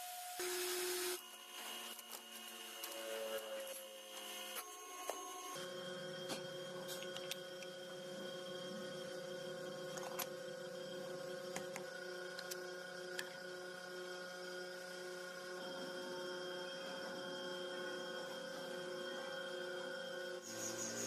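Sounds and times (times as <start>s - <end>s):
machine tool electric hum: 0.0s - 21.0s.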